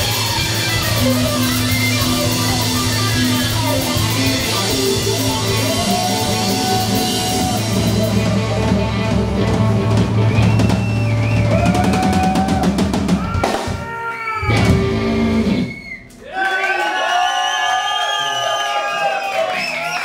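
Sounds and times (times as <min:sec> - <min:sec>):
blues band playing: 0:00.0 - 0:16.2.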